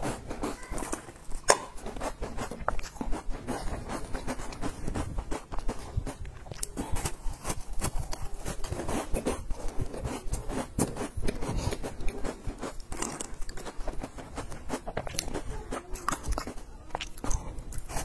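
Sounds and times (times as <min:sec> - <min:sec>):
crunching and chewing cookie: 0:00.0 - 0:18.0.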